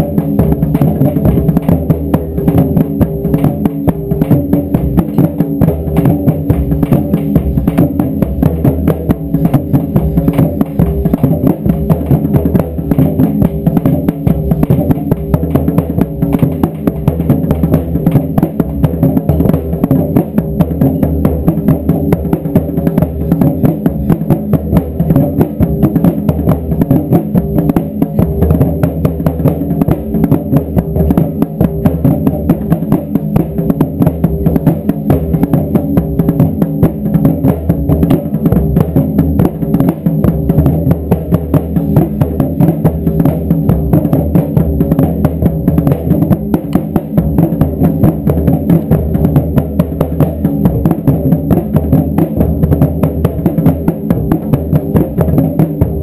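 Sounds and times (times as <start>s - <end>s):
taiko drums pounding: 0.0s - 56.0s.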